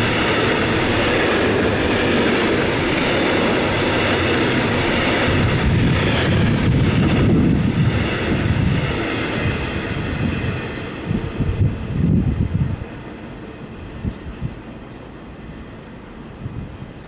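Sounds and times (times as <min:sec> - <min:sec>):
wind buffeting microphone: 0:00.0 - 0:14.7, 0:16.2 - 0:17.0
train running on track: 0:00.0 - 0:17.0.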